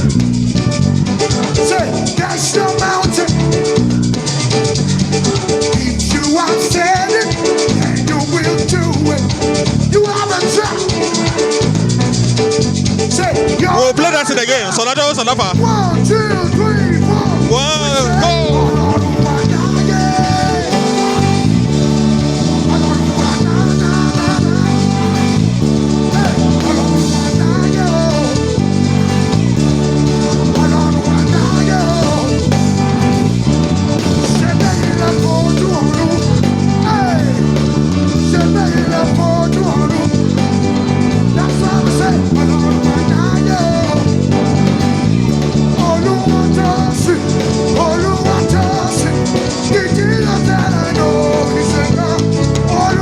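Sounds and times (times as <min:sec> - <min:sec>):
band playing upbeat groove: 0:00.0 - 0:53.0
electric bass guitar: 0:00.0 - 0:53.0.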